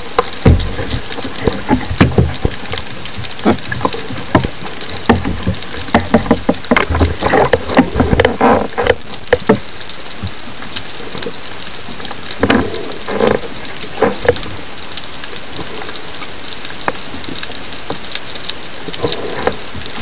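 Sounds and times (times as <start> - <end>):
water churning underwater: 0.0 - 20.0.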